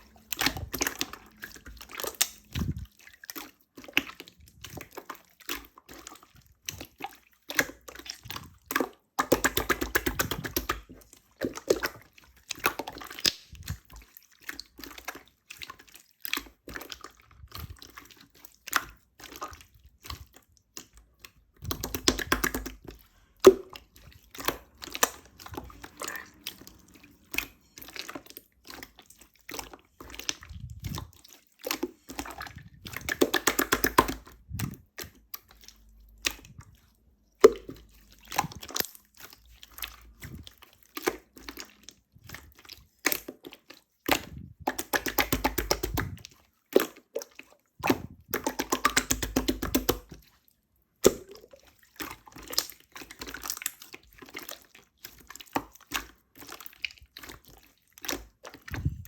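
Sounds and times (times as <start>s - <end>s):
slime squelching and popping: 0.0s - 59.0s.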